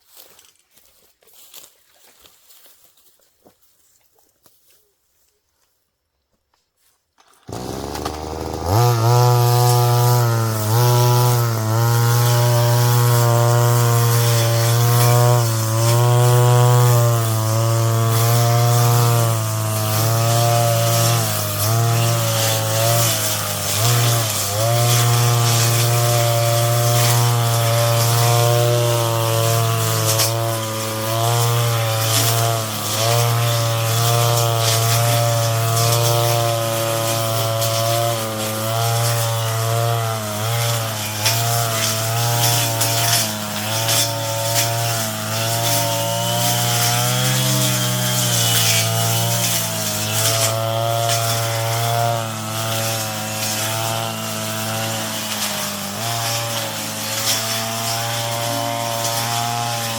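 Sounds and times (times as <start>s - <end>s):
brush cutter engine: 7.2s - 59.9s.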